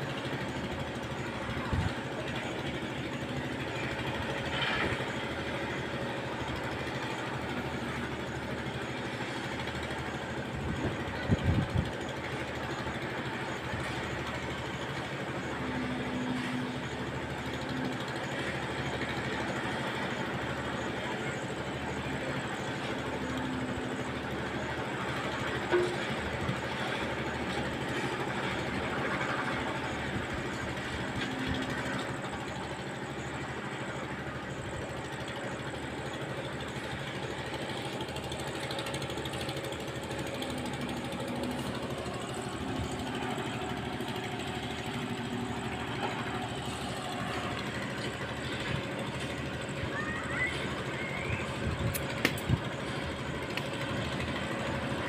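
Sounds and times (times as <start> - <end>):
concrete mixer engine running: 0.0 - 55.0.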